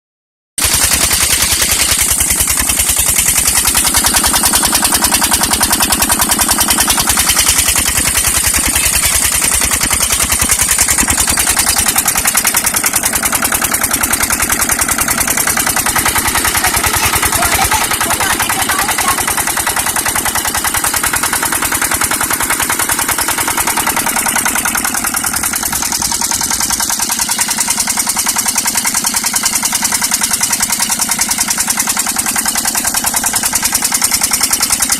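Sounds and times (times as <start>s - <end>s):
diesel engine running: 0.6s - 34.9s.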